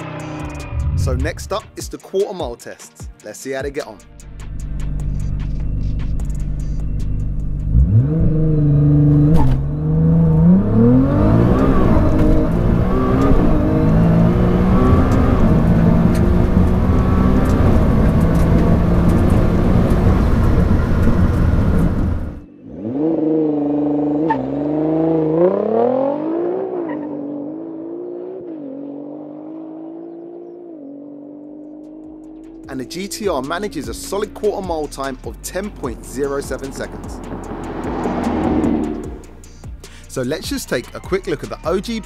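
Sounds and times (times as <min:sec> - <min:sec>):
car engine accelerating hard: 0:00.0 - 0:01.4, 0:04.6 - 0:34.3, 0:35.8 - 0:39.4.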